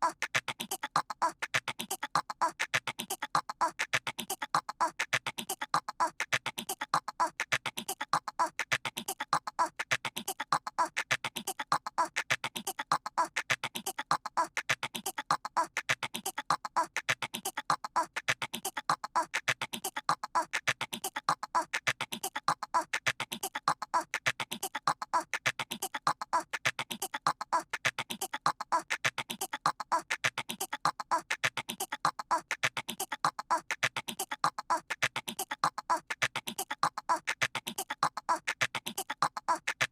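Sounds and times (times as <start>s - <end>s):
cartoon voice chattering: 0.0s - 39.9s.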